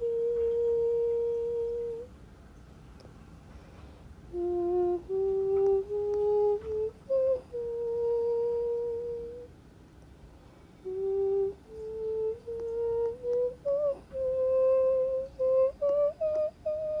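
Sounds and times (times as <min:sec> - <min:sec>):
person humming softly: 0:00.0 - 0:02.2, 0:04.3 - 0:09.6, 0:10.8 - 0:17.0.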